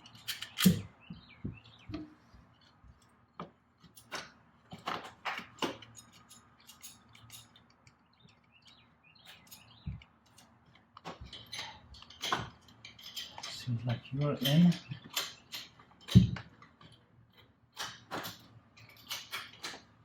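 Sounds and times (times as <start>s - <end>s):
metal parts and tools clicking: 0.0s - 0.9s, 3.8s - 19.9s.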